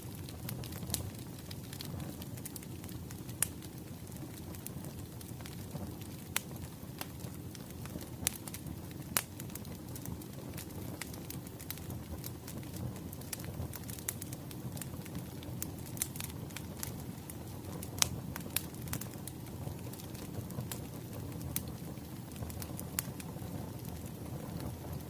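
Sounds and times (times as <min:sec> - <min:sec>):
firewood crackling and popping: 0:00.0 - 0:25.0
low rumble of fire: 0:00.0 - 0:25.0.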